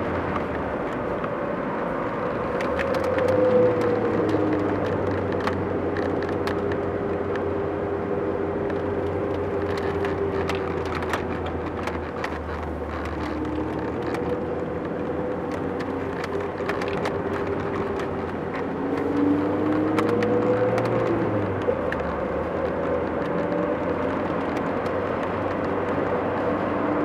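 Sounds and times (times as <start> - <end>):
car road and engine noise: 0.0 - 27.0.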